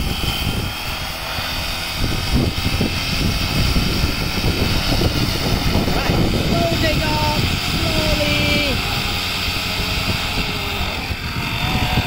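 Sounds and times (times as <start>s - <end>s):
electric motor whine: 0.0s - 12.0s
rotor blades whooshing: 0.0s - 12.0s
wind rumble on microphone: 0.0s - 12.0s.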